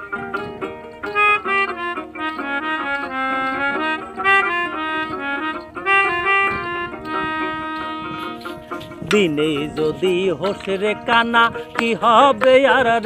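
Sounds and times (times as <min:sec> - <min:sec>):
melodica melody: 0:00.0 - 0:11.8
hand drum: 0:00.0 - 0:13.0
plucked ukulele: 0:00.0 - 0:13.0.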